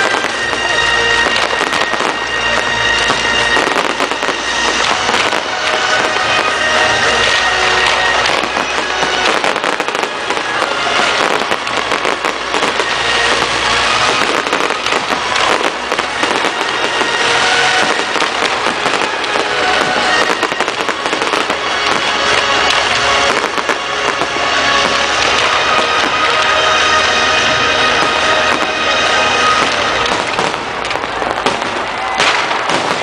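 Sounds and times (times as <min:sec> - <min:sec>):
fireworks popping and crackling: 0:00.0 - 0:33.0.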